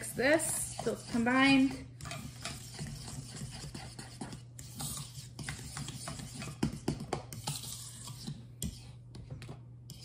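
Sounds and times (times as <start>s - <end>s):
utensil scraping a mixing bowl: 0.0s - 9.2s.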